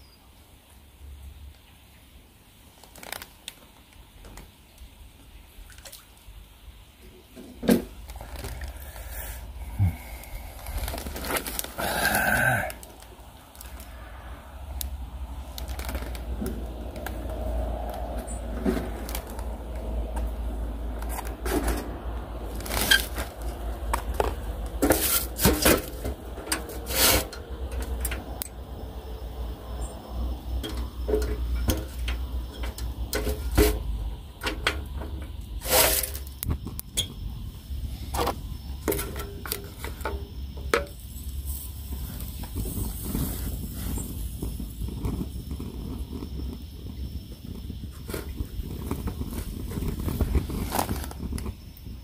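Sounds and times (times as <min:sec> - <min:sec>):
pine cones crackling and popping: 0:02.5 - 0:06.4, 0:07.3 - 0:52.0
low stove rumble: 0:06.9 - 0:52.0.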